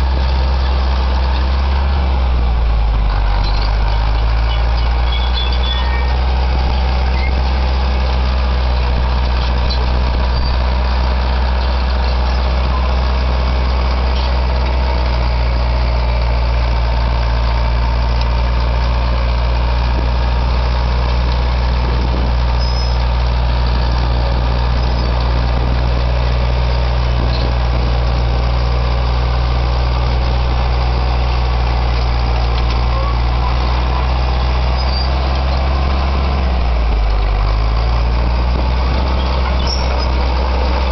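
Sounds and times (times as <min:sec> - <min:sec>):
bulldozer diesel engine droning: 0:00.0 - 0:40.9.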